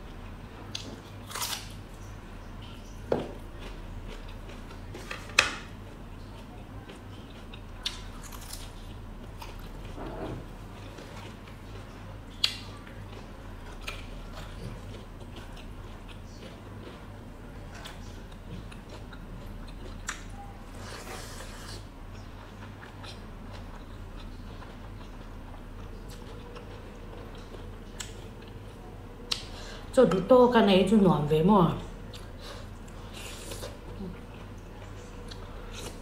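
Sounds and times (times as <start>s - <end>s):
wet chewing and mouth sounds: 0.7s - 29.6s, 32.0s - 36.0s.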